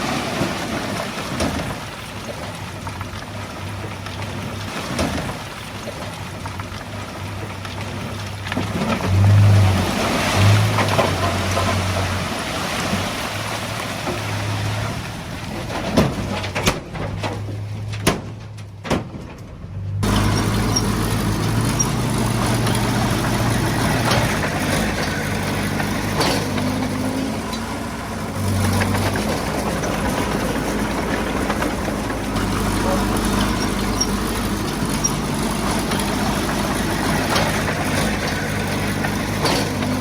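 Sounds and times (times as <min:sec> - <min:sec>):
heavy diesel engine running: 0:00.0 - 0:18.0, 0:19.5 - 0:40.0.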